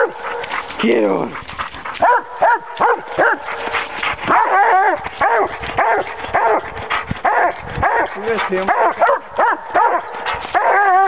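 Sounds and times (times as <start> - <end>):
dogs baying: 0.0 - 11.0.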